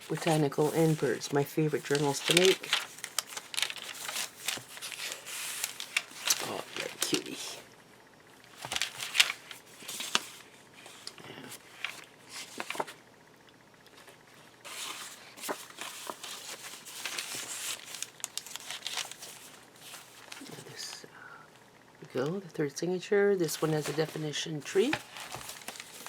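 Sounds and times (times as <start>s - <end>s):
paper rustling and crinkling: 0.0s - 7.6s, 8.5s - 13.0s, 13.9s - 20.9s, 23.4s - 26.0s.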